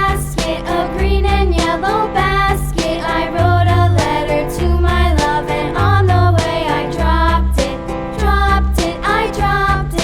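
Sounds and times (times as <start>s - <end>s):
upbeat music with voice-like lead: 0.0s - 10.0s.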